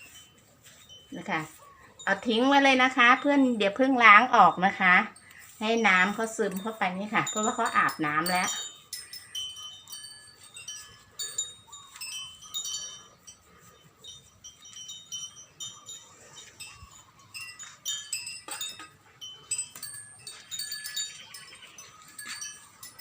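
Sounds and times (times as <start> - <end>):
wind chimes tinkling: 0.0 - 23.0.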